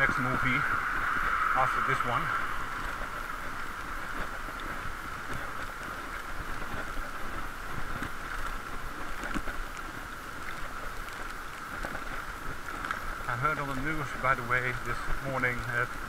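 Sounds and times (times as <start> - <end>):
muffled wind and road noise: 0.0 - 16.0
faint ticks: 2.7 - 16.0.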